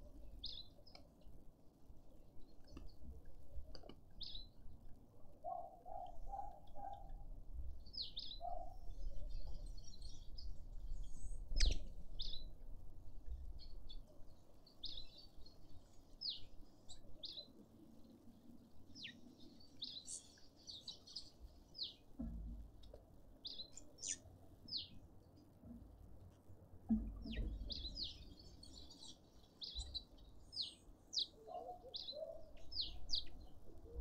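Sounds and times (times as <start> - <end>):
small birds chirping: 0.0 - 1.3, 2.2 - 4.7, 7.8 - 12.6, 13.2 - 34.0.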